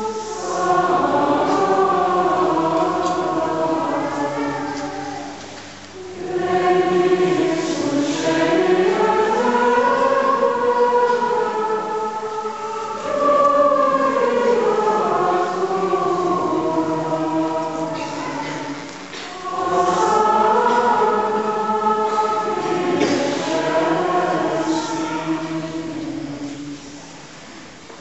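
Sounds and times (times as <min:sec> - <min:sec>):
congregation singing plainchant: 0:00.0 - 0:28.0.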